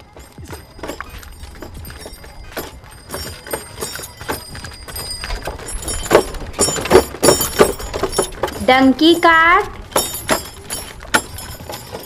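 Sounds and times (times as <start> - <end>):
irregular hoofbeat knocks: 0.0 - 12.0.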